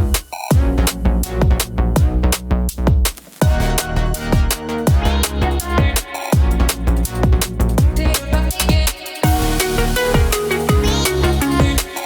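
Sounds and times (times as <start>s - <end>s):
electronic music with heavy bass: 0.0s - 12.0s
steady drum beat: 0.0s - 12.0s.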